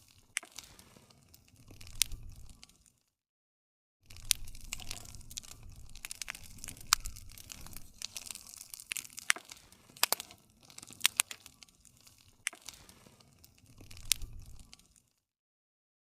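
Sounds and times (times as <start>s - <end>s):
low rumble of flames: 0.0s - 2.9s, 4.0s - 15.2s
wood crackling and popping: 0.0s - 3.1s, 4.0s - 15.3s.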